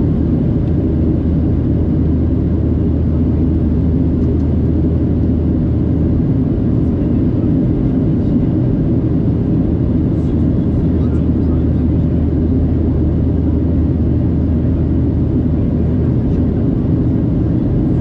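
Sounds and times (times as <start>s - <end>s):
airplane cabin engine rumble: 0.0s - 18.0s
steady low hum: 0.0s - 18.0s.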